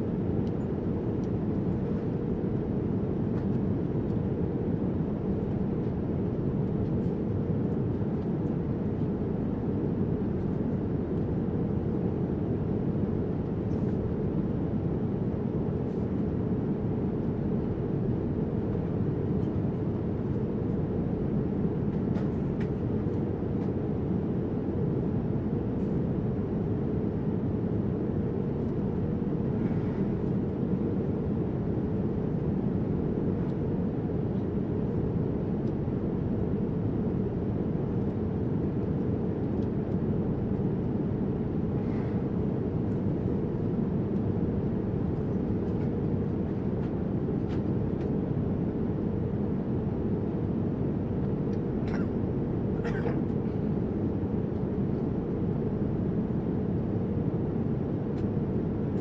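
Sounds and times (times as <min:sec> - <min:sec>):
jet cabin engine roar: 0:00.0 - 0:59.0.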